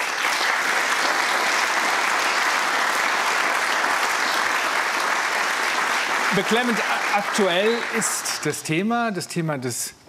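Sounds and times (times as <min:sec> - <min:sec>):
studio audience applauding: 0:00.0 - 0:08.7.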